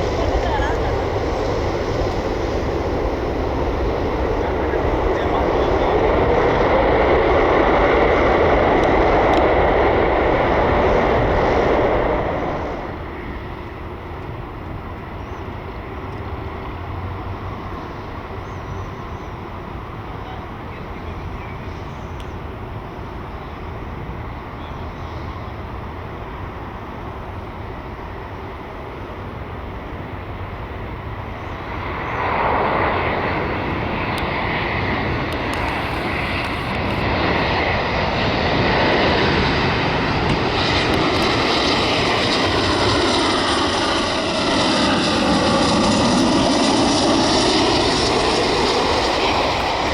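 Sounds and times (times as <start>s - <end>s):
jet engine noise: 0.0s - 49.9s.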